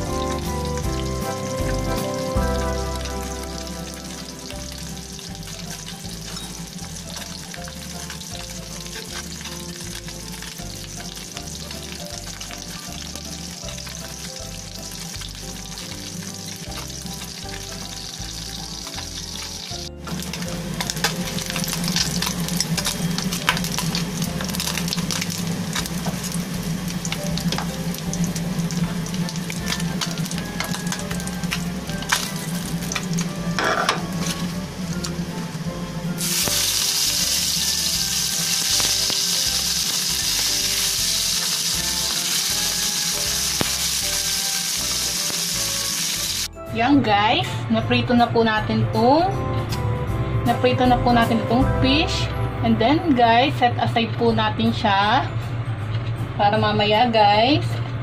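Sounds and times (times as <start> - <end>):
fish sizzling in hot oil: 0.0 - 46.5.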